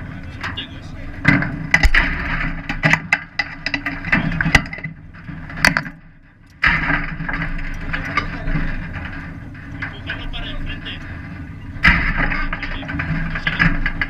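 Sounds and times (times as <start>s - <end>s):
steady engine rumble: 0.0s - 14.0s.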